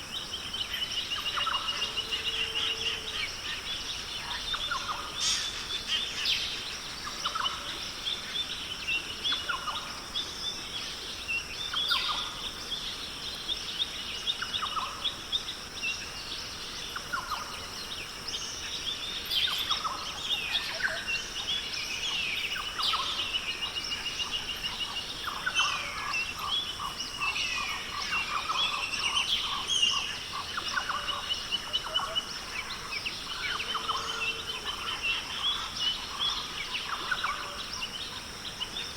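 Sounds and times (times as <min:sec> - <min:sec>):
birds calling and trilling: 0:00.0 - 0:38.9
steady high-pitched hiss: 0:00.0 - 0:38.9.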